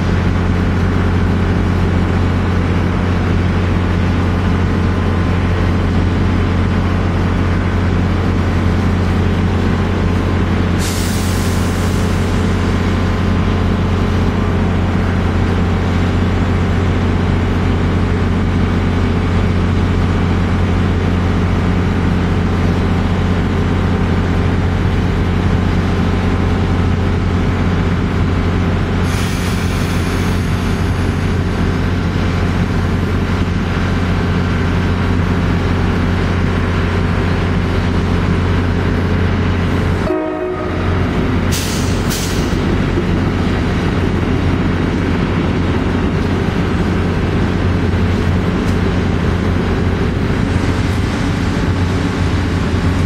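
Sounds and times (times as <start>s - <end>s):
train low drone: 0.0s - 53.0s.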